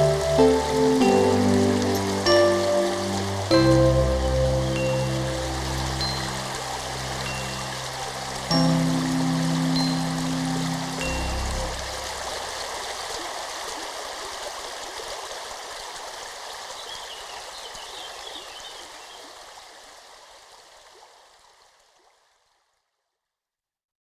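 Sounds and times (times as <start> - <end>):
babbling stream water: 0.0 - 22.9.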